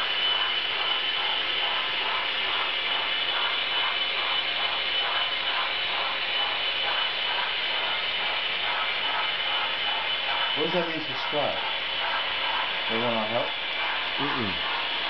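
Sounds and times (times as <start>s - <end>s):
model train whirring: 0.0s - 15.0s.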